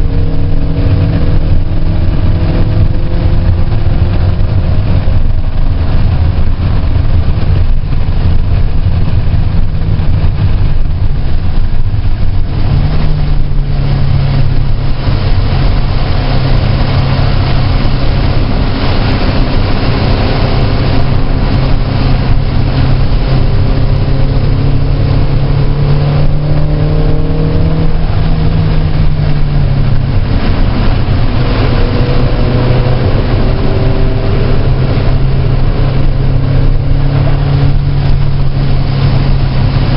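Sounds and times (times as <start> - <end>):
car engine running hard: 0.0 - 39.9
road and wind noise: 0.0 - 39.9.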